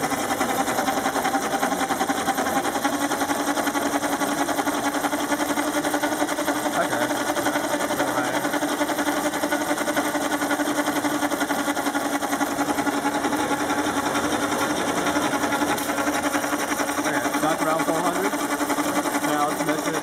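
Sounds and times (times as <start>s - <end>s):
drill motors and gears whirring: 0.0s - 20.0s.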